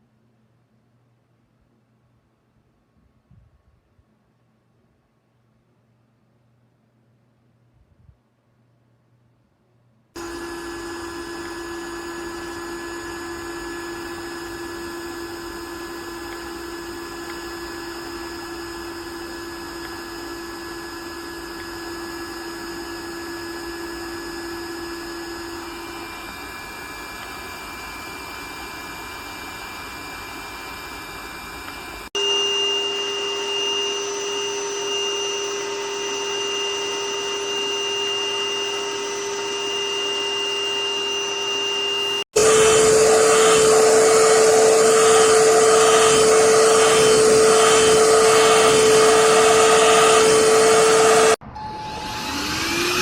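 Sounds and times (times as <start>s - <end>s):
handheld vacuum cleaner whine: 10.2s - 53.0s.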